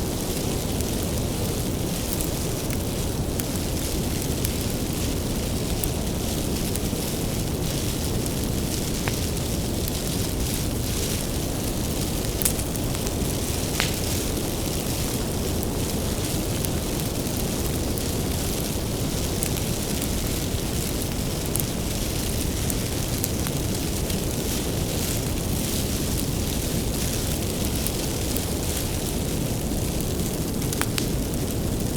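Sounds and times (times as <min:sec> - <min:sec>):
fire crackling and popping: 0:00.0 - 0:31.9
wood fire rumbling and hissing: 0:00.0 - 0:31.9.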